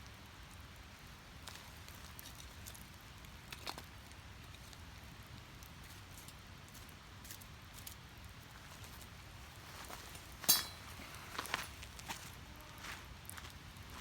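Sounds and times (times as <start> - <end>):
fire crackling and popping: 0.0 - 12.3.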